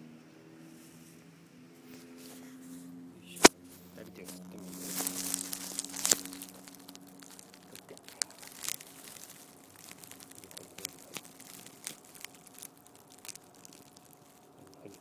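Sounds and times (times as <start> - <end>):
grass rustling and crackling: 0.6 - 15.0.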